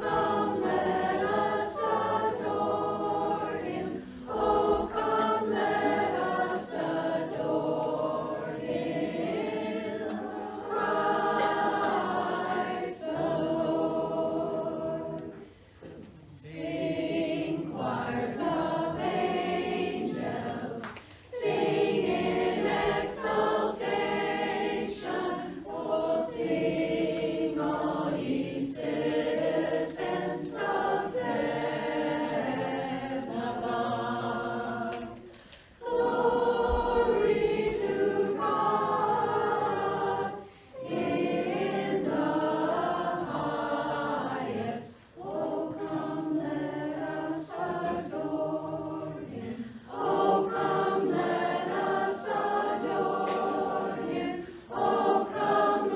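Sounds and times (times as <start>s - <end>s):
women's chorus singing a cappella: 0.0s - 55.9s.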